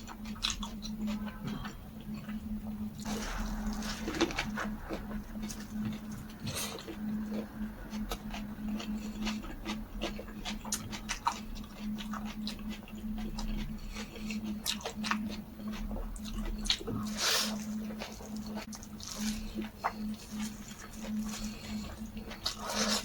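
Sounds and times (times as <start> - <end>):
chewing and lip-smacking: 0.0 - 23.0
faint low hum: 0.0 - 23.0.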